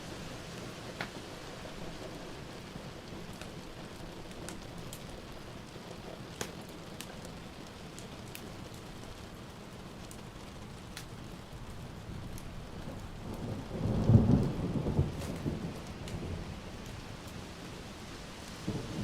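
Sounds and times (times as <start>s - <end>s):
wood fire crackling: 0.0s - 18.7s
steady rain hissing: 0.0s - 19.0s.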